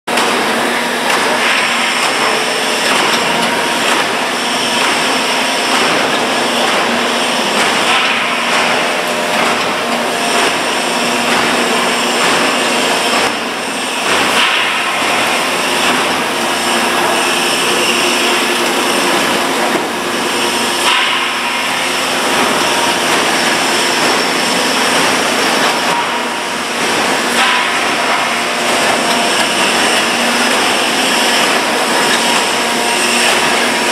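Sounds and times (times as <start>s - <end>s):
loud steady machine noise: 0.1s - 33.9s.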